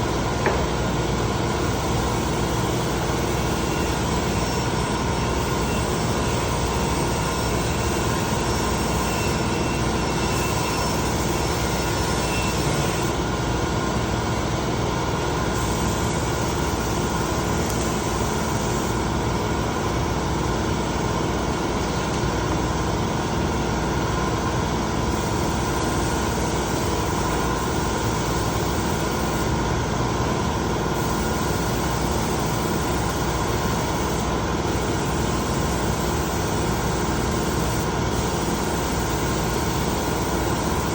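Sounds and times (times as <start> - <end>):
machine whirring drone: 0.0 - 40.9.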